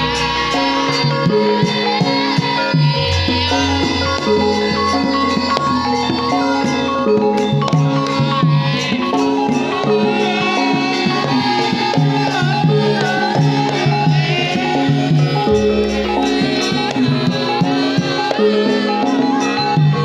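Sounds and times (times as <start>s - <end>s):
drum strokes: 0.0s - 19.2s
metallophones ringing: 0.0s - 20.0s
sliding melodic line: 0.0s - 20.0s.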